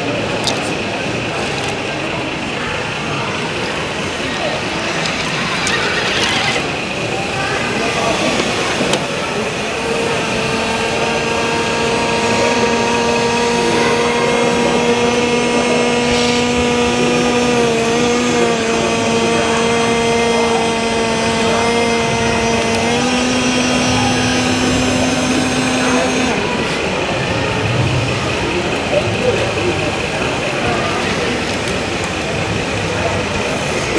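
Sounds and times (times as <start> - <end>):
model excavator motor whine: 0.0 - 33.9.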